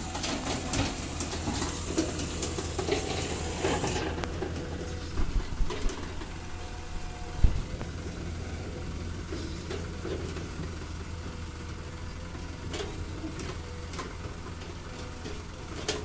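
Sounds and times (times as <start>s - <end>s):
excavator diesel engine hum: 0.0s - 16.0s.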